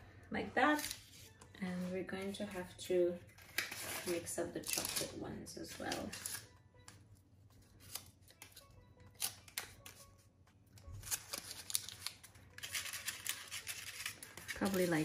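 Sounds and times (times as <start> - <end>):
soft background music: 0.0 - 15.0
paper cupcake cases rustling: 0.6 - 6.5, 7.4 - 15.0.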